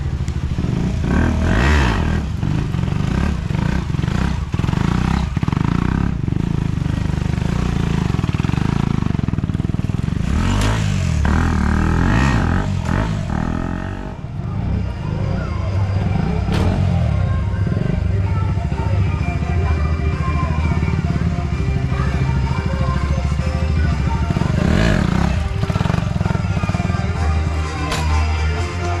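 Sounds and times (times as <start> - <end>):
motorcycle engine revving: 0.0 - 28.3.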